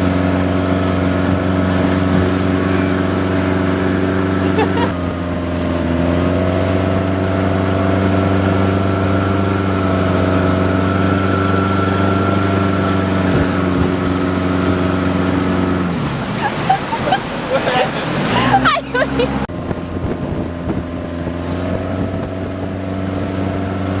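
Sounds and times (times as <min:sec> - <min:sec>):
motorboat engine at high throttle: 0:00.0 - 0:24.0.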